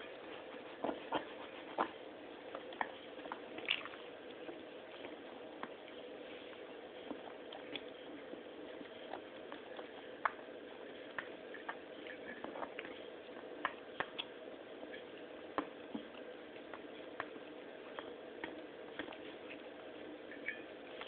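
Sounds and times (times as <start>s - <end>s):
faint steady hum: 0.0s - 21.0s
pets eating with sharp clicks: 0.0s - 21.0s.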